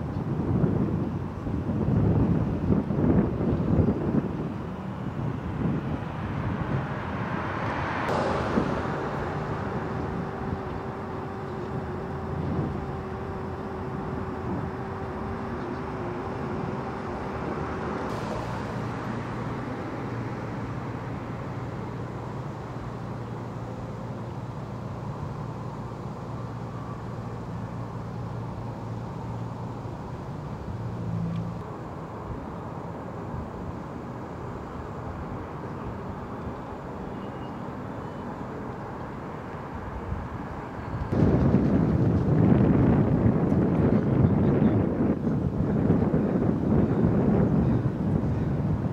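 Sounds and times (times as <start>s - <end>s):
vehicle engines humming: 0.0s - 48.9s.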